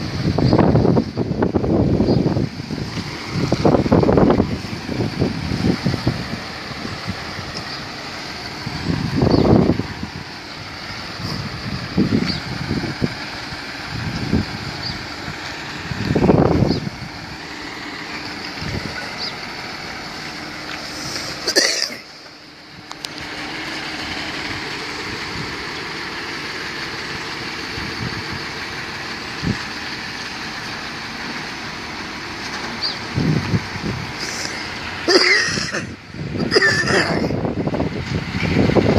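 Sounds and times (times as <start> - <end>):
distant truck diesel engine: 0.0 - 38.9.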